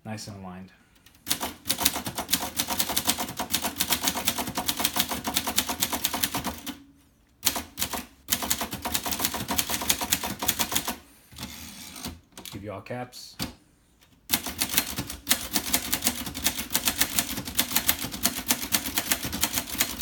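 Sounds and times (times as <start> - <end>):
typewriter typing: 1.0 - 6.8, 7.4 - 12.6, 14.2 - 20.0.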